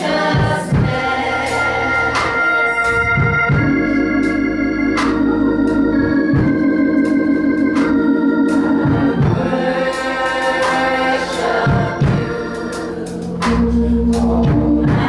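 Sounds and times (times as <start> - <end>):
church organ chords: 0.0 - 15.0
sharp percussion hits: 0.0 - 15.0.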